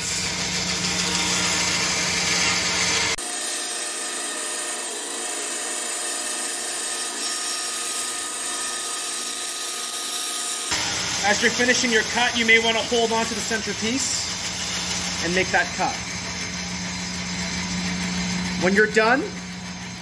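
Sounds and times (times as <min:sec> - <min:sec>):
bandsaw cutting wood: 0:00.0 - 0:20.0.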